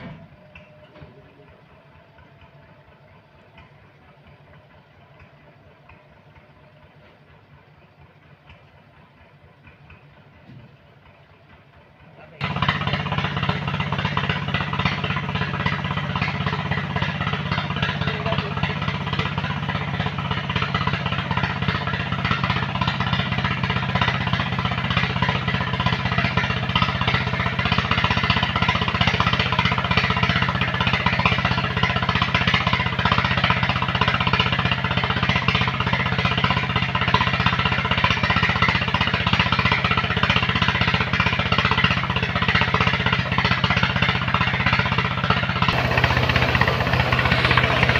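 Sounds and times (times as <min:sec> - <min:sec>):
heavy machine engine knocking: 0:00.0 - 0:47.9.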